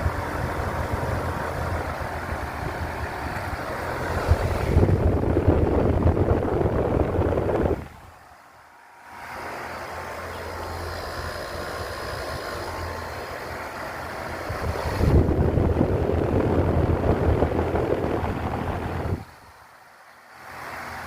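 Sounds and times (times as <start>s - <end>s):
wind rumbling on microphone: 0.0s - 8.2s, 10.8s - 19.6s
air conditioner humming: 0.0s - 21.0s.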